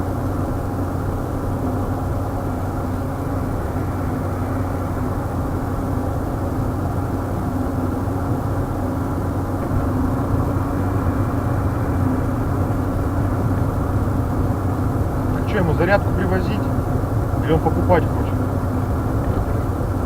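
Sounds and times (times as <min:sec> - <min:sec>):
car engine and tyre hum: 0:00.0 - 0:20.0.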